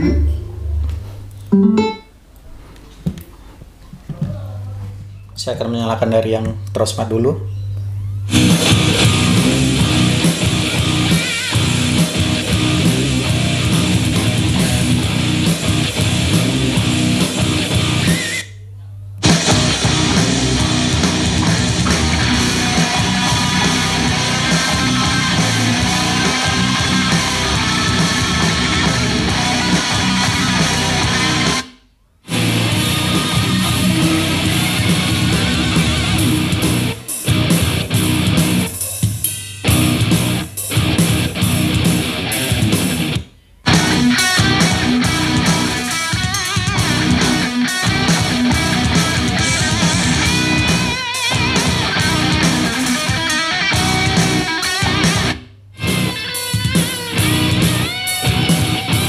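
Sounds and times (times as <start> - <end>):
rock song with electric guitar: 8.3 - 18.4, 19.2 - 31.6, 32.3 - 38.7, 39.7 - 59.0.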